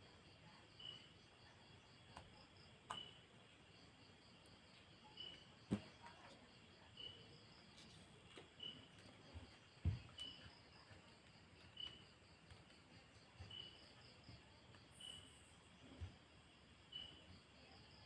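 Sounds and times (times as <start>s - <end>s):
insects chirping: 0.2s - 18.0s.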